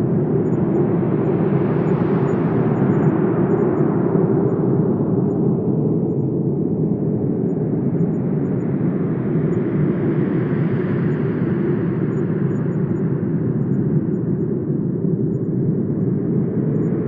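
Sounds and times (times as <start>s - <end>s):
wind blowing with deep rumble: 0.0s - 17.0s.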